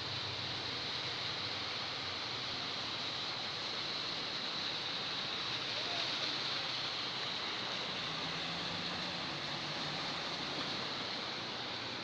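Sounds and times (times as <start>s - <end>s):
faint low engine hum: 0.0s - 12.0s
vehicles splashing through floodwater: 0.0s - 12.0s.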